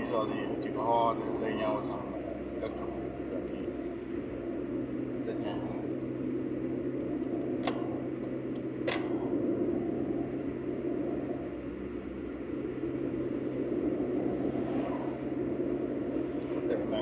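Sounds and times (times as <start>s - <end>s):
car engine drone: 0.0s - 17.0s
road and tyre noise: 0.0s - 17.0s.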